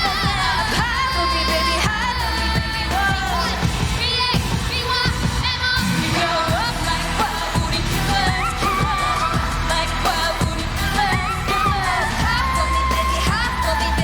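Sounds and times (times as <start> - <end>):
girl group singing live: 0.0 - 14.0
pop backing track with heavy bass: 0.0 - 14.0.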